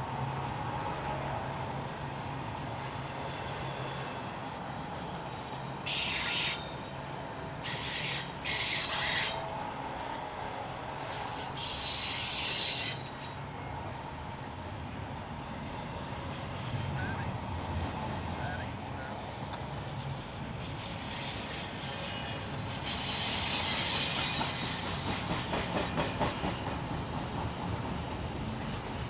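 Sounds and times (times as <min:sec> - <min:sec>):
freight train rolling: 0:00.0 - 0:29.0.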